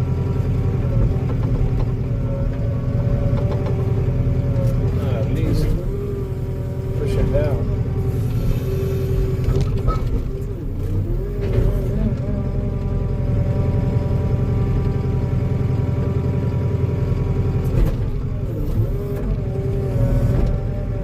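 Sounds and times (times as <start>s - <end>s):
earthmoving machine diesel engine: 0.0s - 21.0s.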